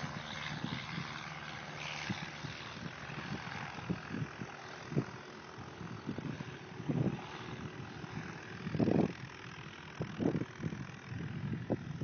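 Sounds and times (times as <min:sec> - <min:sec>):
distant airplane engine drone: 0:00.0 - 0:12.0
wind buffeting microphone: 0:00.0 - 0:12.0.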